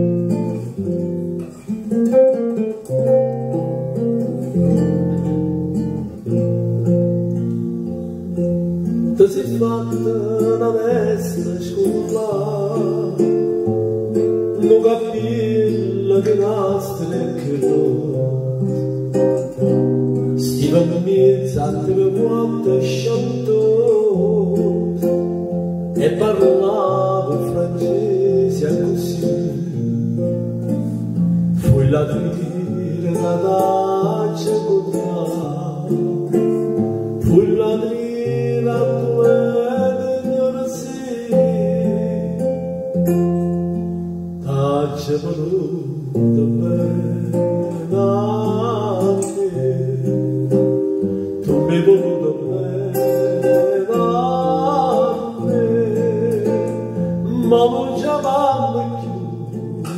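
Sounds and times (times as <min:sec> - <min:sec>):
acoustic guitar picking: 0:00.0 - 0:59.9
man singing: 0:07.8 - 0:30.4, 0:31.6 - 0:43.4, 0:44.4 - 0:59.9.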